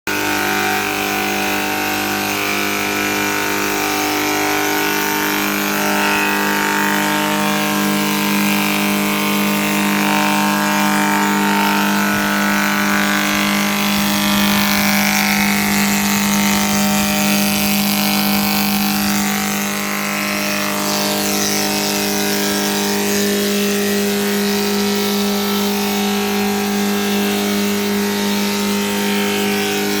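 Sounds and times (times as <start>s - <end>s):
planer cutter hiss: 0.1s - 30.0s
wood planer motor hum: 0.1s - 30.0s.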